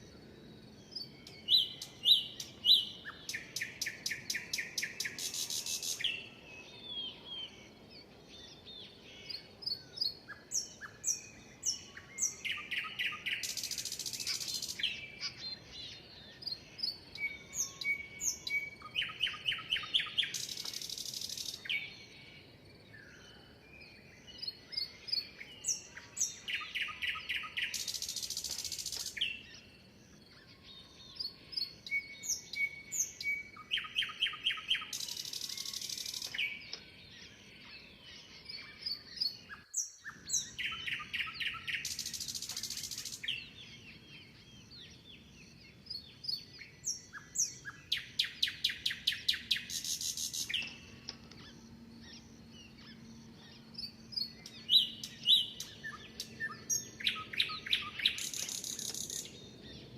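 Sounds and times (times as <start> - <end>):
loud bird song with rapid notes: 0.0 - 59.9
birds chirping and whistling: 0.8 - 8.7, 9.3 - 22.4, 23.0 - 59.9.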